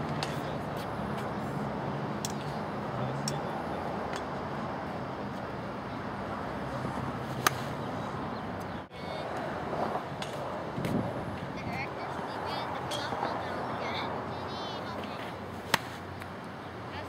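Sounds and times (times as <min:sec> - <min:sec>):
steady outdoor traffic hum: 0:00.0 - 0:17.0.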